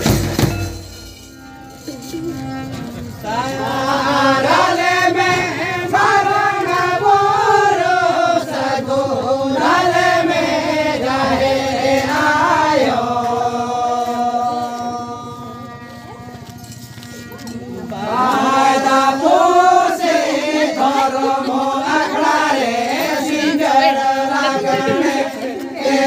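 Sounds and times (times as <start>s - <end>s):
harmonium notes: 0.0s - 26.0s.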